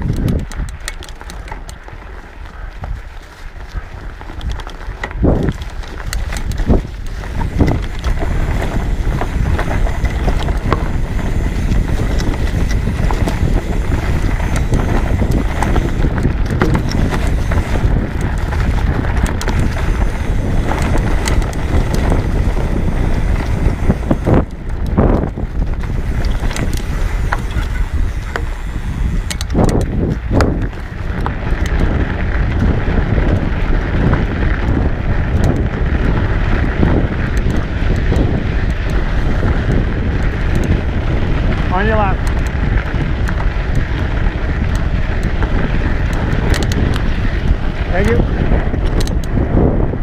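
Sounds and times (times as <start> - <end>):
bike knocking and rattling: 0.0 - 50.0
wind on microphone: 0.0 - 50.0.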